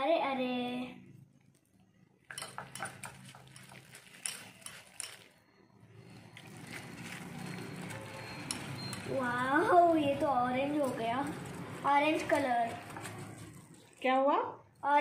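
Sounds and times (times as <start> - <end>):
wet stirring: 1.2 - 14.2.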